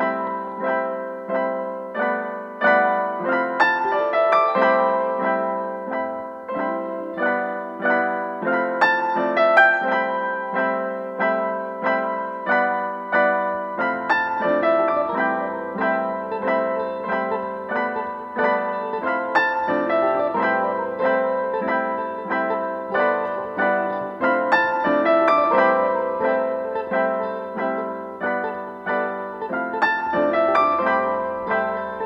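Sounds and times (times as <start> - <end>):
gentle piano music: 0.0 - 32.0.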